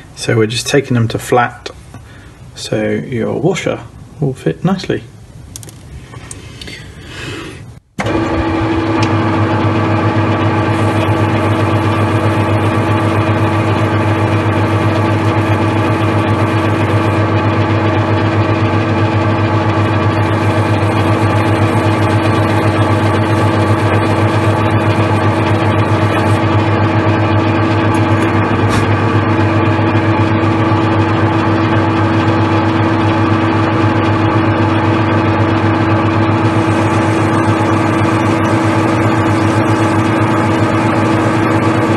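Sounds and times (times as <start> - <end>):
metal lathe humming: 8.0 - 41.9.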